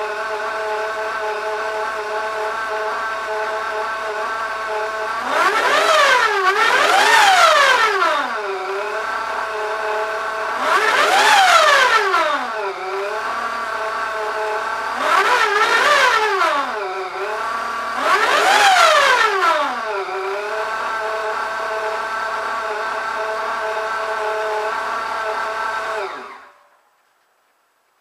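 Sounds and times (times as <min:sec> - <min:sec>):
supercharged car engine revving: 0:00.0 - 0:26.8.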